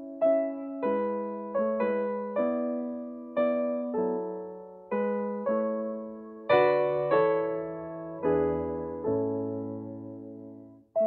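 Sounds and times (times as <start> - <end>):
piano chords ringing: 0.0 - 11.0.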